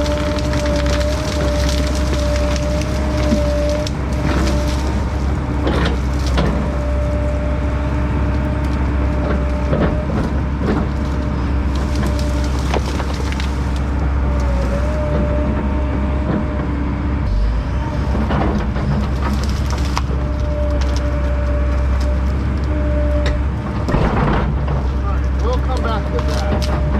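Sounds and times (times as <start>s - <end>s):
wood cracking and splintering: 0.0s - 16.7s, 17.3s - 26.9s
mulcher diesel engine under load: 0.0s - 26.9s.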